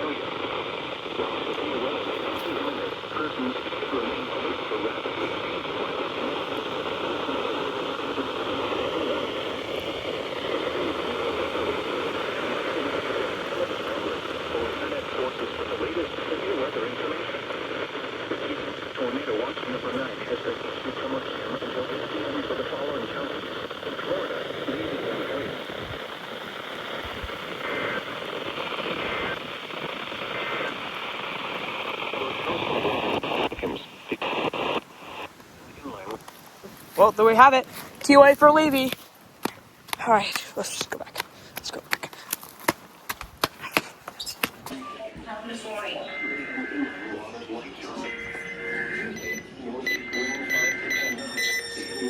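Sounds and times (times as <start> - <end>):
paired data tones: 0.0 - 36.3, 43.7 - 52.0
radio static hiss: 0.0 - 52.0.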